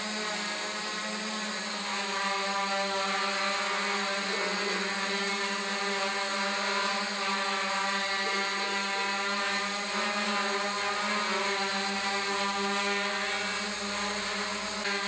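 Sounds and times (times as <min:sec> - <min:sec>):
drone hovering buzz: 0:00.0 - 0:15.0.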